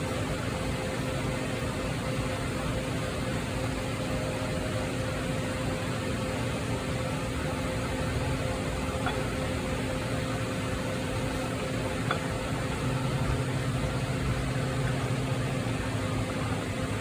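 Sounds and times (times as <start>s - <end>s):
fan droning: 0.0s - 17.0s.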